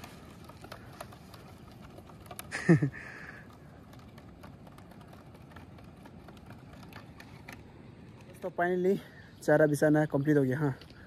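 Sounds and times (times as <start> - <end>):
fishing line spool clicking: 0.0 - 11.0.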